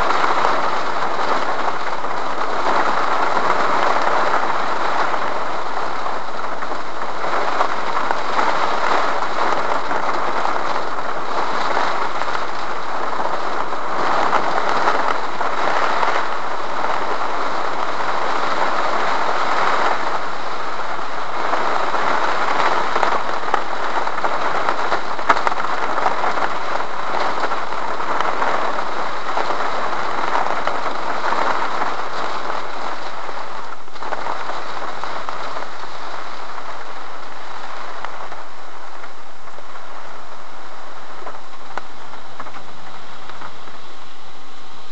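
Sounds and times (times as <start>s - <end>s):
rain drumming on car roof: 0.0s - 44.9s.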